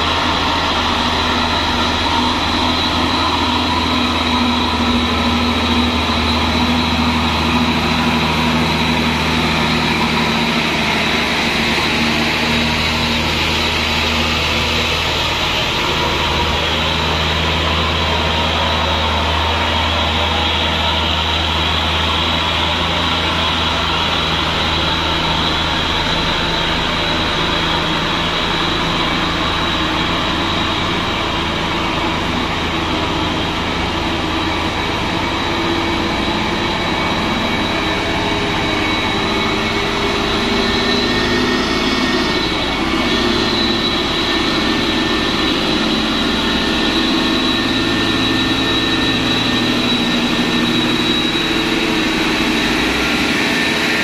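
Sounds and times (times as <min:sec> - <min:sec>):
diesel truck engines running: 0:00.0 - 0:54.0.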